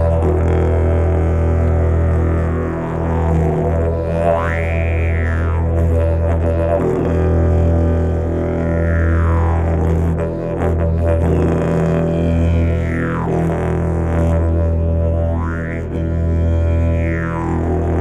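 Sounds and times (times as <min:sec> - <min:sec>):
didgeridoo drone: 0:00.0 - 0:18.0.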